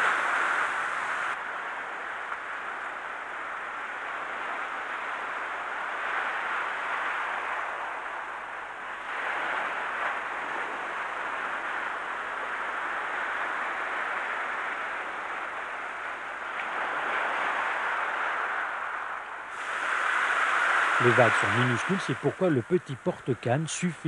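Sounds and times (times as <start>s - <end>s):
sea waves washing up a beach: 0.0s - 24.0s.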